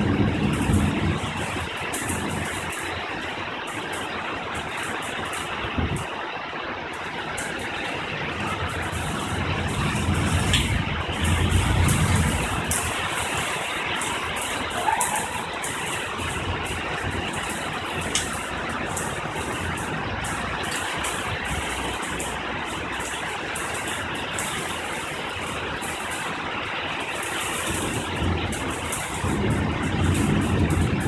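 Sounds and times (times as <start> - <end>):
drips and splashes: 0.0 - 31.0
heavy rain hissing: 0.0 - 31.0
low thunder rumble: 0.0 - 31.0.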